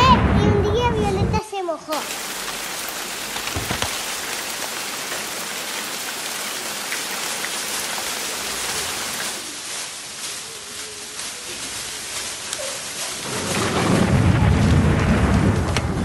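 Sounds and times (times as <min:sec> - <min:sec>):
heavy rain hissing: 0:01.9 - 0:16.0.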